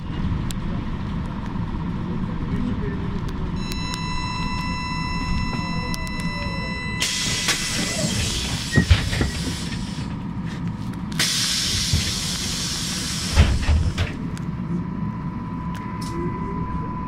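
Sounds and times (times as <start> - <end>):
trolleybus running gear rumble: 0.0 - 17.0.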